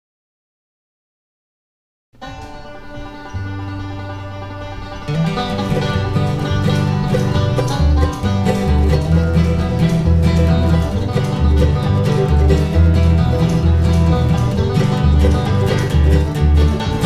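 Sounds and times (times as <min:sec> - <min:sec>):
banjo picking: 0:02.2 - 0:17.0
guitar: 0:02.2 - 0:17.0
moving bass line: 0:02.2 - 0:17.0.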